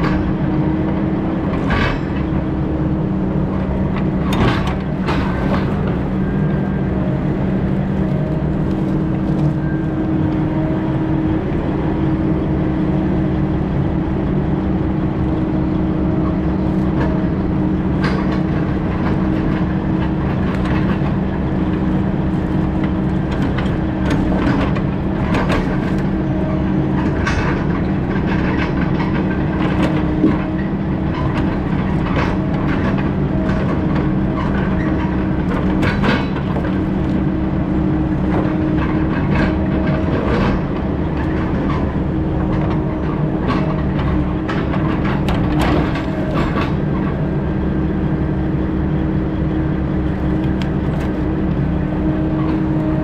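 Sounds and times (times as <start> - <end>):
heavy diesel machine drone: 0.0 - 53.0.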